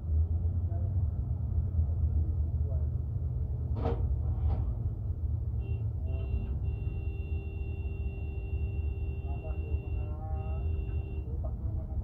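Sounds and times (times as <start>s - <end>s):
heavy engine rumbling: 0.0s - 12.0s.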